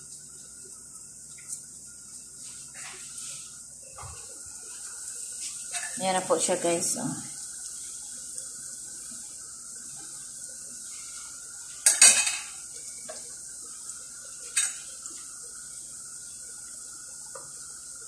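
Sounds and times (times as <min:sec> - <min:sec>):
dough deep-frying in oil: 0:00.0 - 0:18.0.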